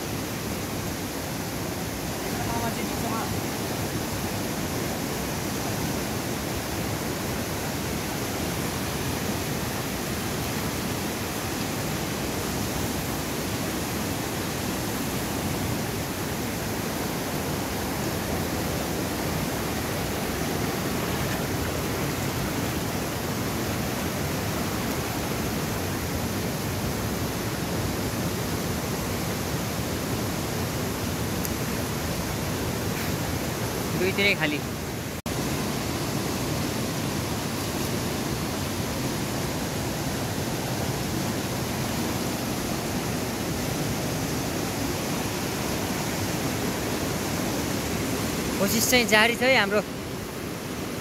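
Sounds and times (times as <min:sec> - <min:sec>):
fast-flowing river rushing: 0:00.0 - 0:51.0.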